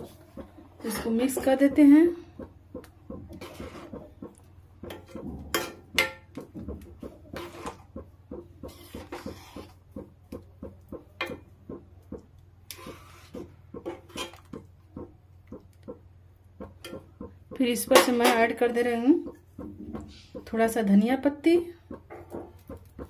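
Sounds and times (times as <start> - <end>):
spoon scraping and knocking a pan: 0.0 - 2.0, 3.2 - 16.0, 16.6 - 20.5.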